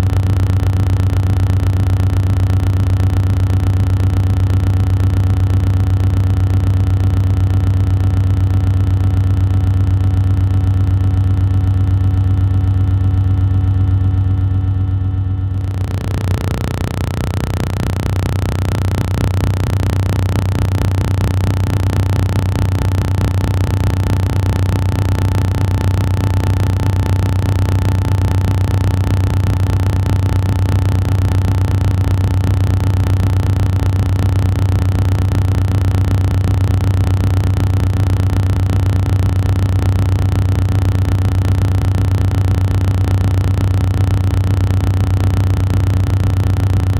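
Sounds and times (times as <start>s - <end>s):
loud low hum: 0.0s - 46.9s.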